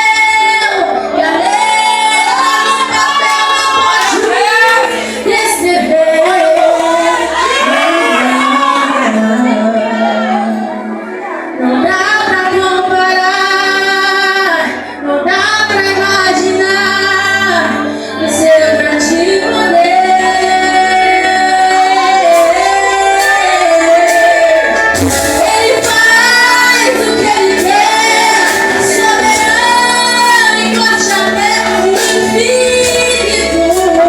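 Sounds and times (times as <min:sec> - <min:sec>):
band with bass and keyboard: 0:00.0 - 0:34.0
group singing sustained notes: 0:00.0 - 0:34.0.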